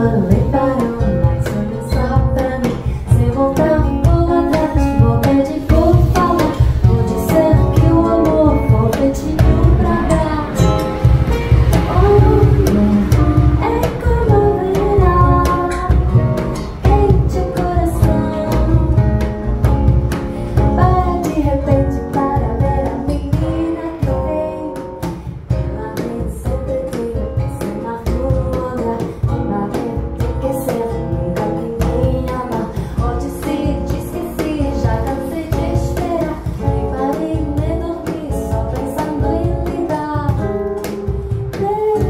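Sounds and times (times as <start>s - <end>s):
strummed acoustic guitar: 0.0s - 42.0s
woman singing: 0.0s - 42.0s.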